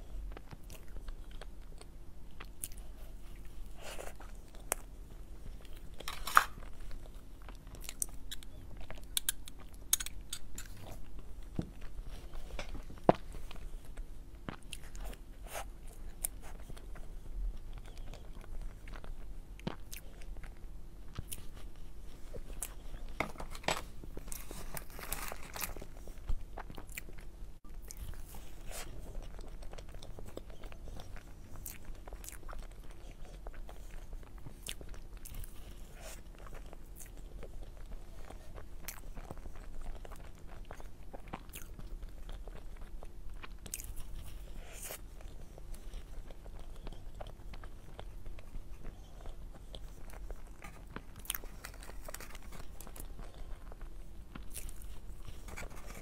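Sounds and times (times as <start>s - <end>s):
person chewing: 0.3s - 56.0s.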